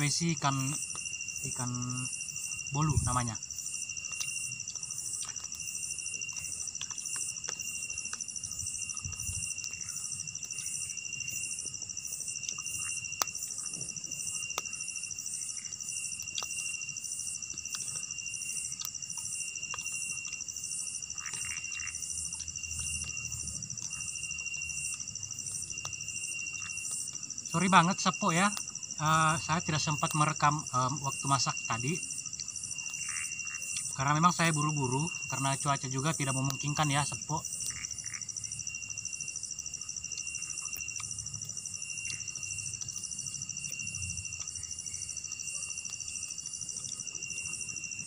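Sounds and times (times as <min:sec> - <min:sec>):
crickets trilling: 0:00.0 - 0:48.0
pulsing insect chirp: 0:00.0 - 0:48.0
steady low insect tone: 0:00.0 - 0:48.0.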